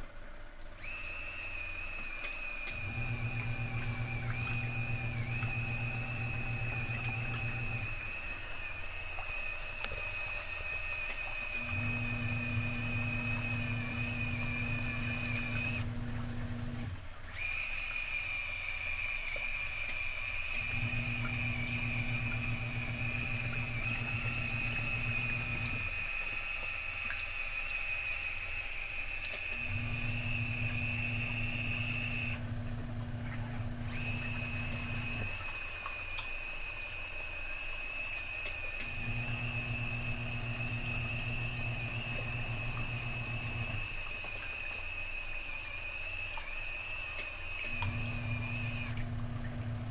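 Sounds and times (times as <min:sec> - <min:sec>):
water churning: 0:00.6 - 0:49.9
small motor humming: 0:00.8 - 0:49.9.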